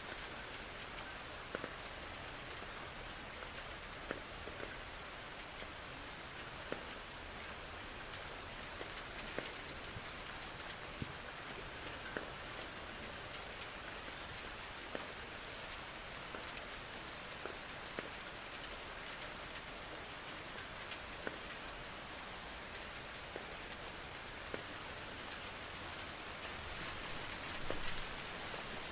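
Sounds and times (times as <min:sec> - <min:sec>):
raindrops ticking: 0:00.0 - 0:28.9
steady rain hiss: 0:00.0 - 0:28.9.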